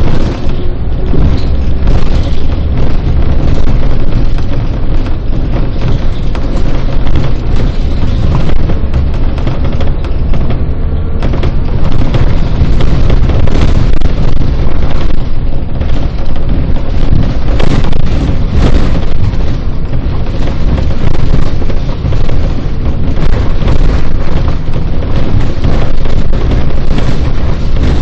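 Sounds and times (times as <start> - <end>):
bus engine rumble: 0.0 - 28.0
road noise: 0.0 - 28.0.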